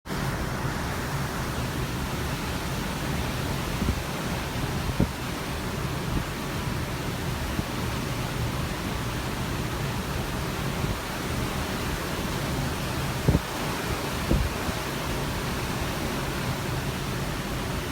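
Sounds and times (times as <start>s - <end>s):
sea and wind rushing: 0.1s - 17.9s.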